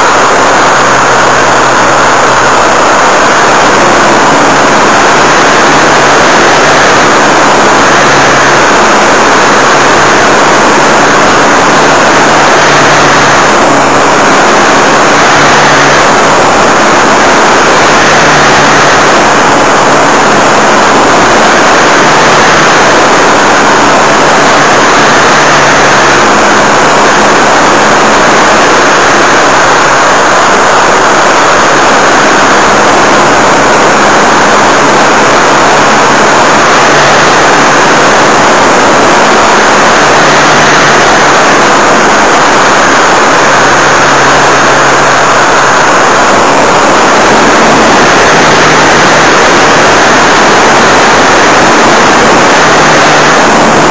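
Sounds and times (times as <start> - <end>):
model airplane motor and propeller: 0.0 - 53.9.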